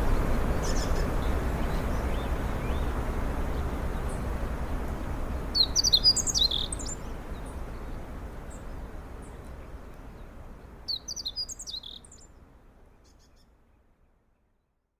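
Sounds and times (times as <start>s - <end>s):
songbird chirping: 0.0s - 14.5s.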